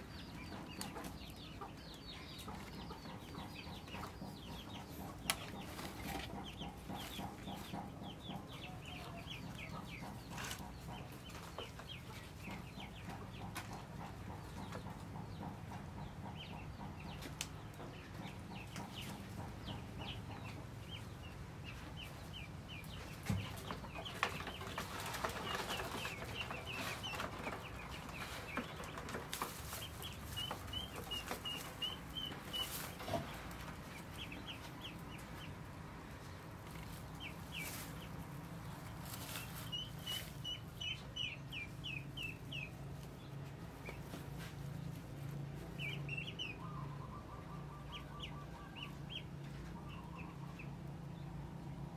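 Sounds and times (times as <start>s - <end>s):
hen clucking: 0.0s - 51.1s.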